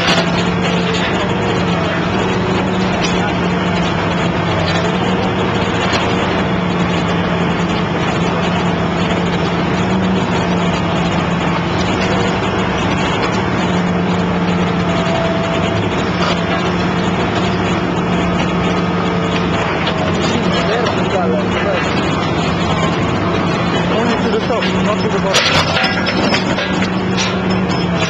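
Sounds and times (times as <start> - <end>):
excavator engine and hydraulics running: 0.0 - 28.0.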